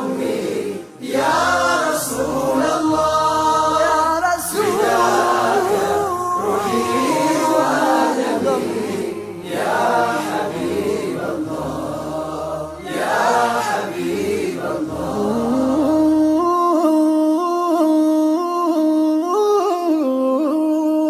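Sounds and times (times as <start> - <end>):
men singing devotional song: 0.0 - 17.0.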